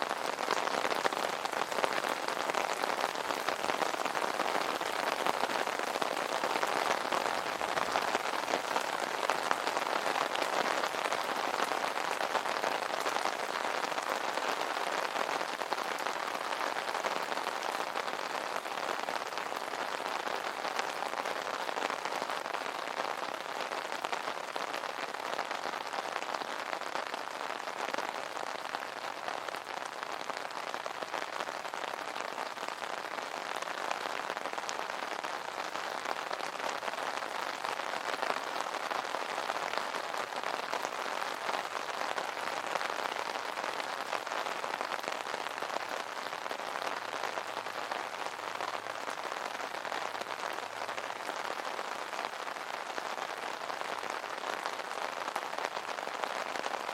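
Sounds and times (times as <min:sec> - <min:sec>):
rain pattering on an umbrella: 0:00.0 - 0:56.9.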